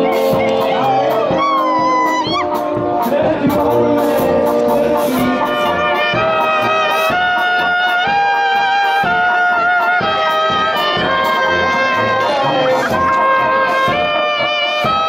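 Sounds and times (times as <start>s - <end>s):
brass band playing dance tune: 0.0s - 15.0s.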